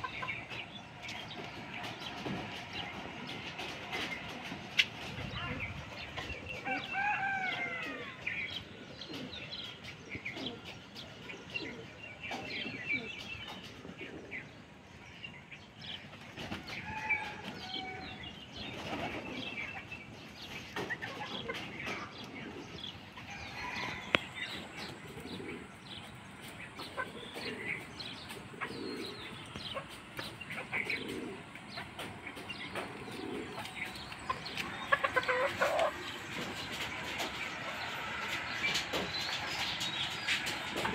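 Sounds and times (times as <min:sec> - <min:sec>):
chickens clucking: 0:00.0 - 0:14.8, 0:15.8 - 0:40.9.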